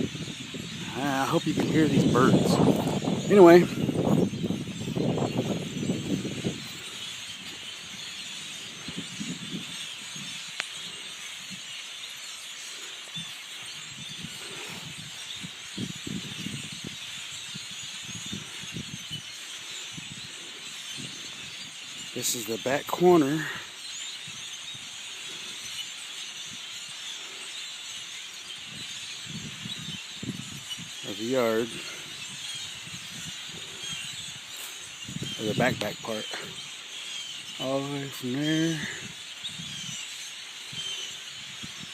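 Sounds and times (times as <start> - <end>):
flock of birds calling: 0.0 - 41.9.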